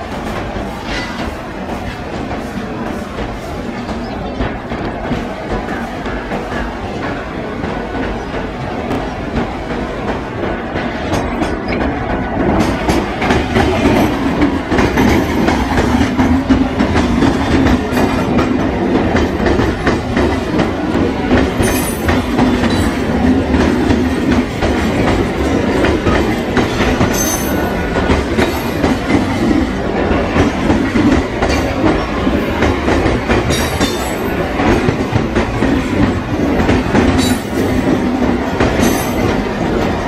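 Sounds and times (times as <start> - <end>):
train wheels clattering over rail joints: 0.0 - 40.0.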